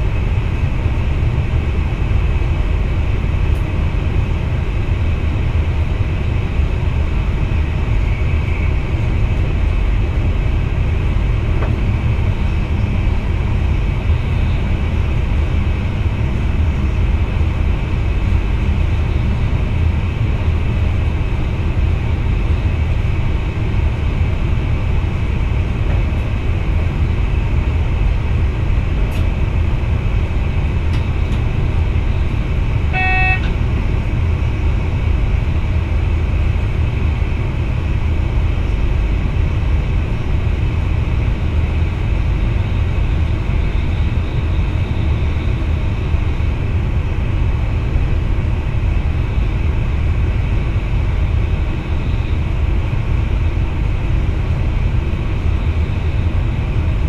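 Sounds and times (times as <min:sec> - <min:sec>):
electric train rumble: 0:00.0 - 0:57.0.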